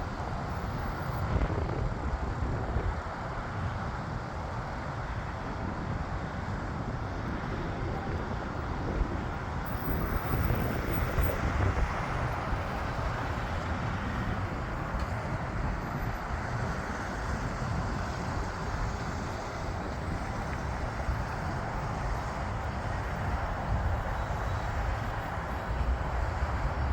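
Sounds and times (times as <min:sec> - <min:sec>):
distant jet engine roar: 0:00.0 - 0:26.9
wind buffeting microphone: 0:00.0 - 0:26.9.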